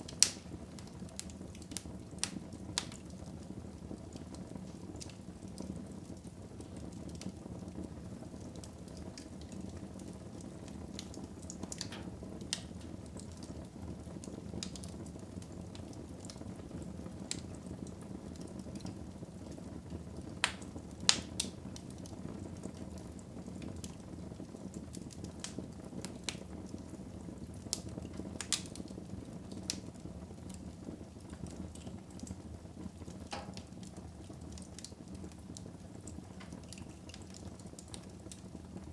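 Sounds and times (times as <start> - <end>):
fire crackles and pops: 0.0 - 38.9.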